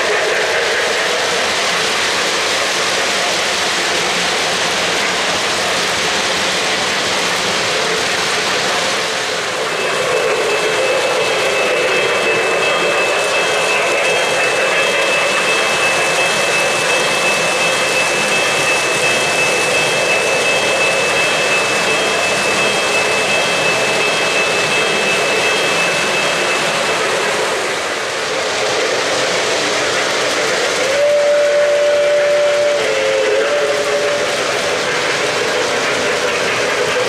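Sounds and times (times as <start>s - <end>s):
model train wheels rumbling: 0.0s - 37.0s.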